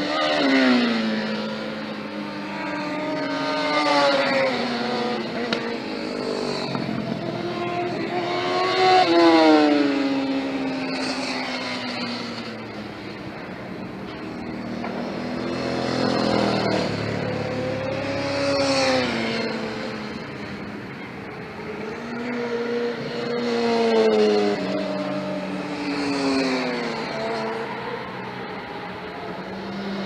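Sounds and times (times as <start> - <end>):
motorcycles passing at speed: 0.0 - 30.0.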